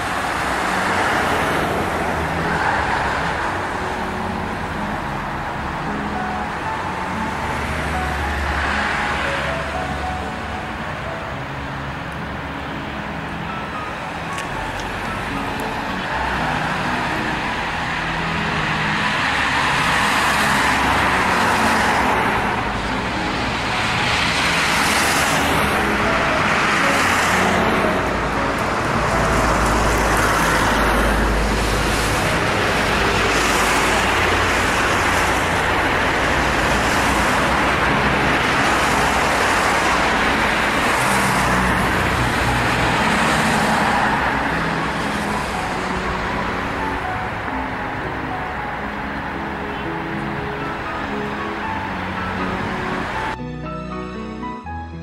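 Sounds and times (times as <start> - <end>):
cars passing: 0.0 - 54.6.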